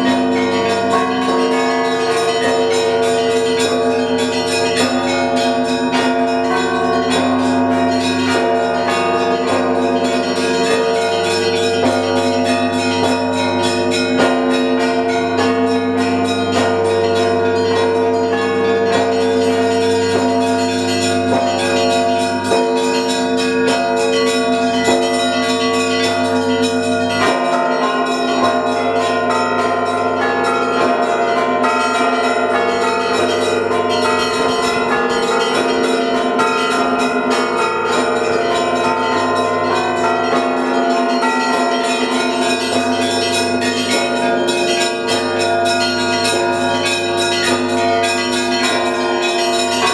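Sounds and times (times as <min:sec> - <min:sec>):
large bells humming: 0:00.0 - 0:49.9
small bells striking quickly: 0:00.0 - 0:49.9.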